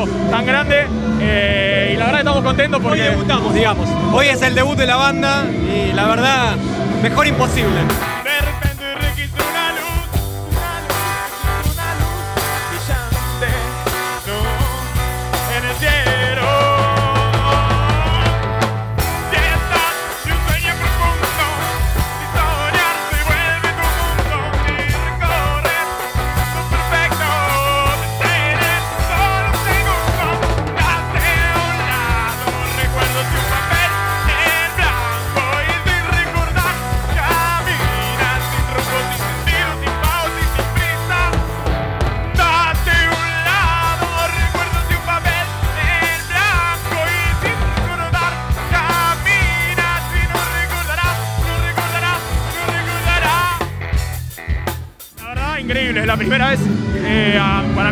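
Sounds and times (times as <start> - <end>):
person singing lead vocal: 0.0 - 41.7, 42.3 - 53.8, 55.1 - 57.9
rock band playing: 0.0 - 57.9
steady bass line: 0.0 - 57.9.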